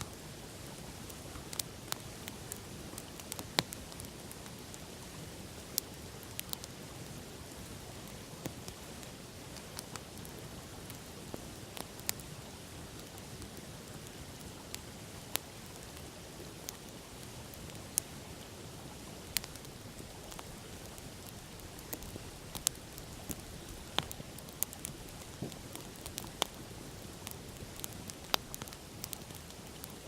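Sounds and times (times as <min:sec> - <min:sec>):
wood fire crackling and popping: 0:01.2 - 0:09.0, 0:09.6 - 0:18.2, 0:18.8 - 0:30.0.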